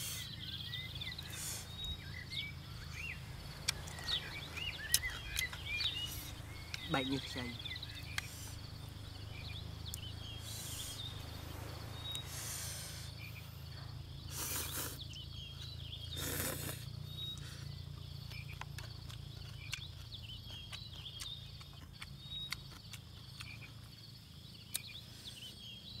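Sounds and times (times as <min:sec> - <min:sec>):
small chirping calls: 0:00.0 - 0:26.0
steady low hum: 0:00.0 - 0:26.0.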